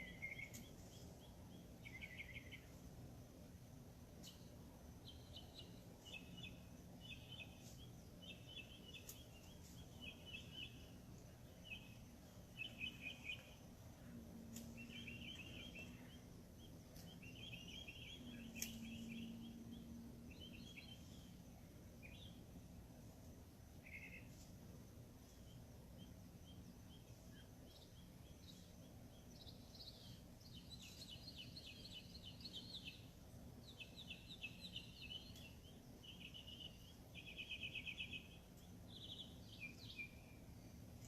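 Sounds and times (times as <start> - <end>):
low hum: 0.0 - 41.0
small birds chirping: 0.0 - 41.0.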